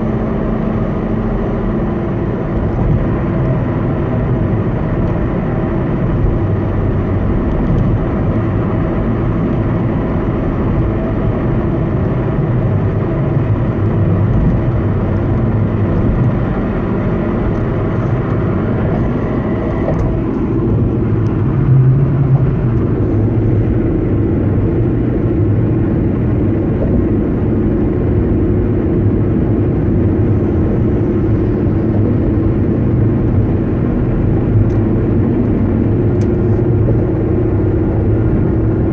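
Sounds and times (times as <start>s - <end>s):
car humming tones: 0.0s - 38.9s
low engine rumble: 0.0s - 38.9s.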